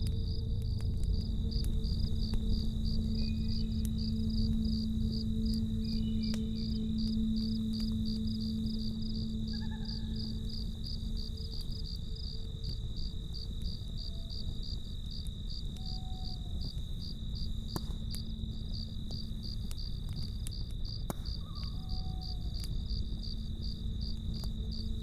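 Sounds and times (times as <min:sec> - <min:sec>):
campfire rumble and crackles: 0:00.0 - 0:25.0
crickets chirping: 0:00.0 - 0:25.0
steady high insect trill: 0:00.0 - 0:25.0.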